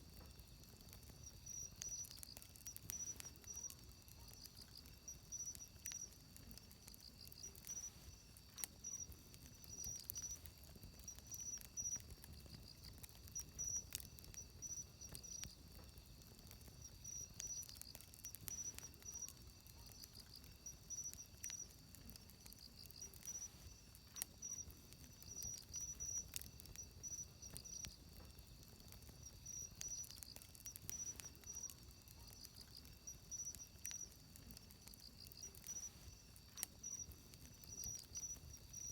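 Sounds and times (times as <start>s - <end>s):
insects chirping in trills: 0.0s - 38.9s
wood fire crackling and popping: 0.0s - 38.9s.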